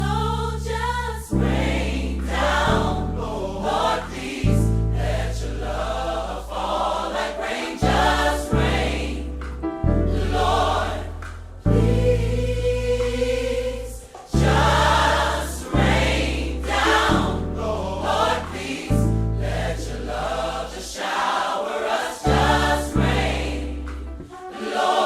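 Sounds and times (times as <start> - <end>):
choir singing over low chords: 0.0 - 25.0.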